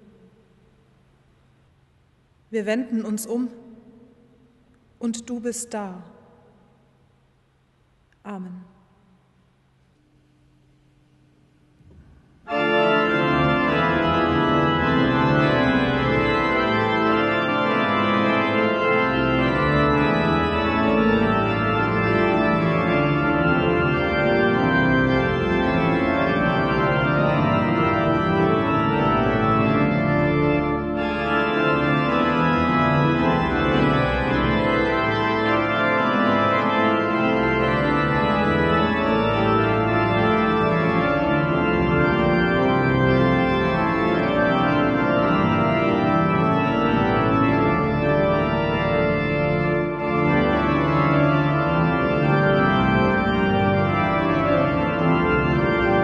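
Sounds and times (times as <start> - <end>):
pipe organ playing loud chords: 11.0 - 56.0.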